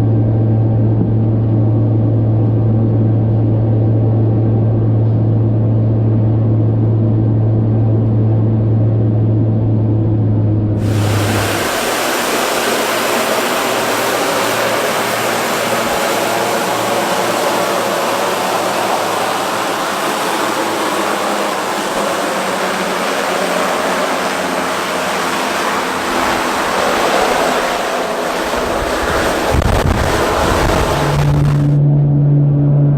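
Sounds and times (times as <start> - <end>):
aircraft engines roaring: 0.0 - 32.9.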